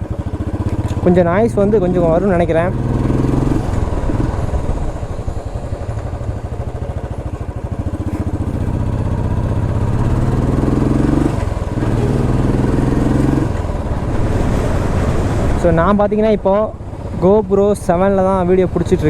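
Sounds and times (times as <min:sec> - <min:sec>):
motorcycle engine thumping: 0:00.0 - 0:19.0.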